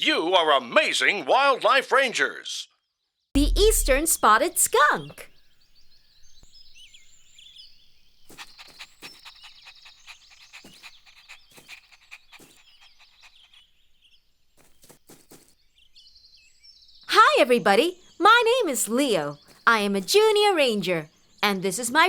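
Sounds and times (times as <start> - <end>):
birds chirping and trilling: 3.4 - 22.0.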